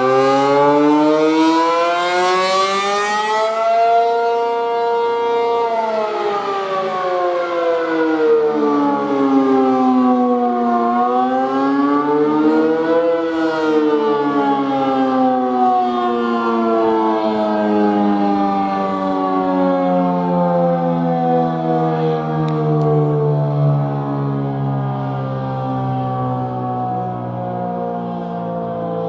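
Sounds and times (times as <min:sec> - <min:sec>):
warning siren wailing: 0:00.0 - 0:29.0.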